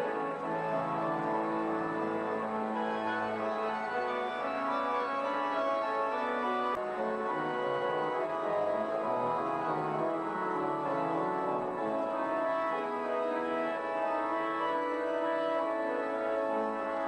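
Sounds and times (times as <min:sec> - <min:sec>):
pipe organ playing: 0:00.0 - 0:17.0.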